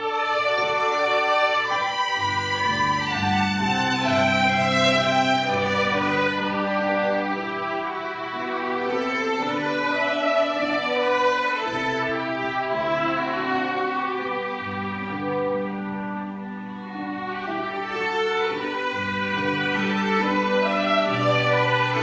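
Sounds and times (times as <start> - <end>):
violins holding long notes: 0.0 - 22.0.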